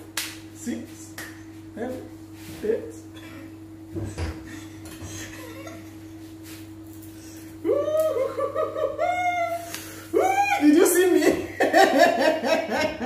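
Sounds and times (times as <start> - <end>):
steady low hum: 0.0 - 13.0
quiet kitchen sounds: 0.4 - 13.0.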